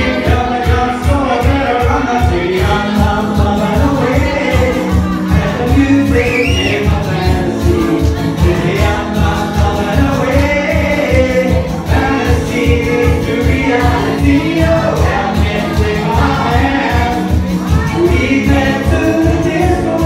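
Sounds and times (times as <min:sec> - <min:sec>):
acoustic guitar strumming: 0:00.0 - 0:20.0
man singing live: 0:00.0 - 0:20.0.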